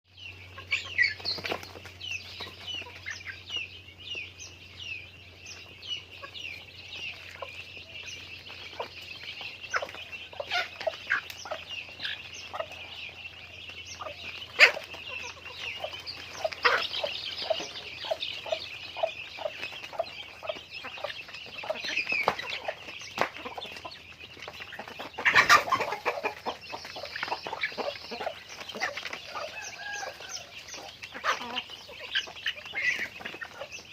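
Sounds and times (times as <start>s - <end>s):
chickens clucking and calling: 0.1s - 33.9s
chickens squawking: 0.3s - 33.9s.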